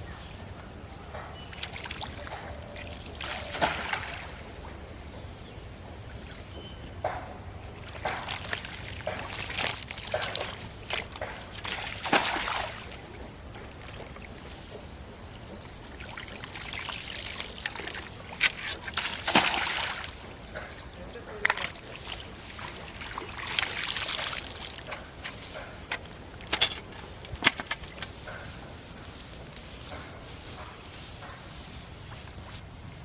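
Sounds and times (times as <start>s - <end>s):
water splashing and sloshing: 0.0s - 33.0s.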